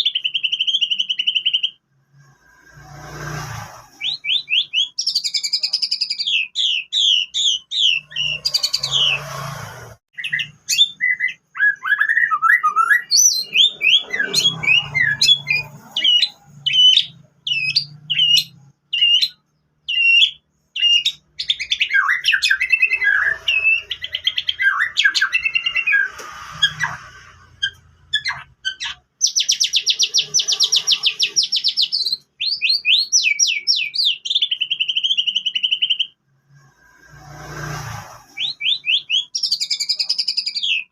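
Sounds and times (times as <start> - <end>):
bird singing whistles and trills: 0.0 - 1.8, 4.0 - 9.2, 10.1 - 27.0, 27.6 - 36.2, 38.4 - 40.9.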